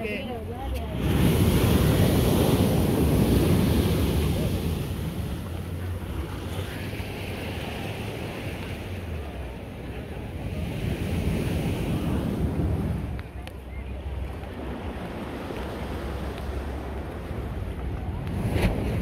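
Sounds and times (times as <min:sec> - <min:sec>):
sea surf washing in: 0:00.0 - 0:13.4, 0:14.0 - 0:19.0
wind buffeting microphone: 0:00.0 - 0:19.0.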